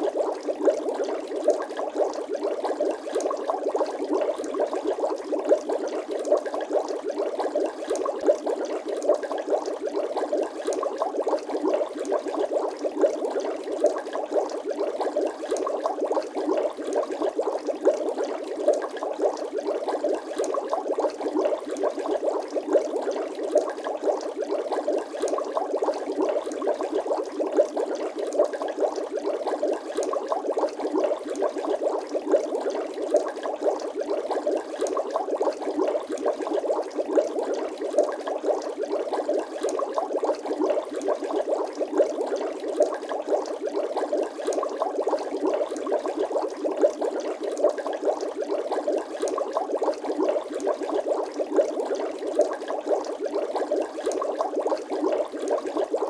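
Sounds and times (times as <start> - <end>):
water bubbling and popping: 0.0 - 56.0.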